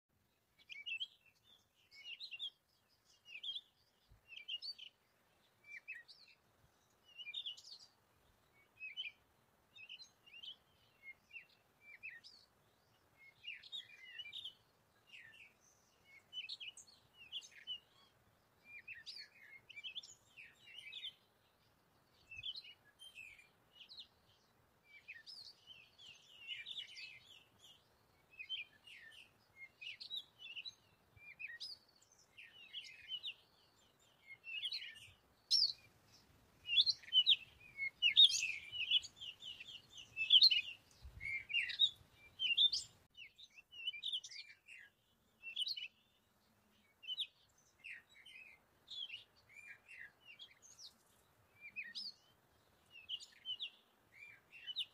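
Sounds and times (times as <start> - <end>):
birds chirping: 0.1 - 54.9.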